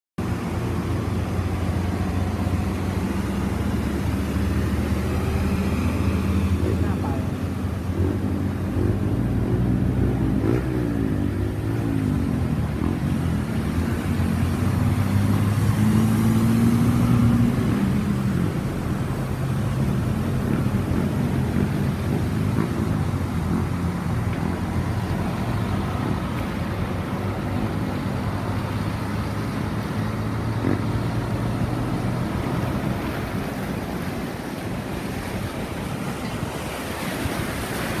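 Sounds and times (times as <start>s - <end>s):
water washing against vehicle: 0.2s - 38.0s.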